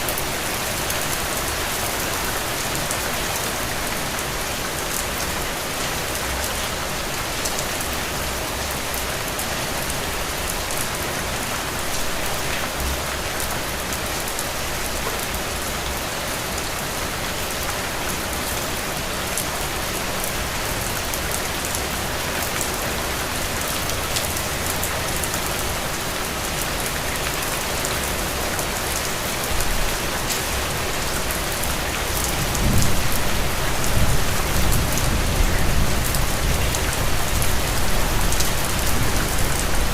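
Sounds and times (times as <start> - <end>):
rain falling on surface: 0.0 - 39.9.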